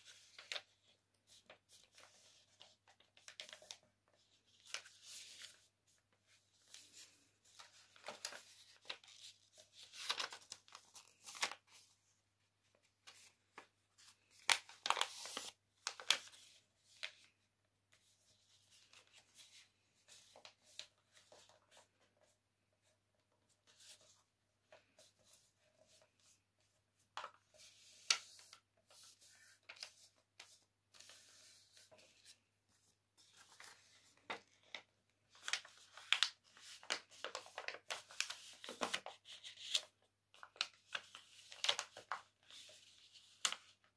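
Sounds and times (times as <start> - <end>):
paper rustling and crinkling: 0.0 - 43.9.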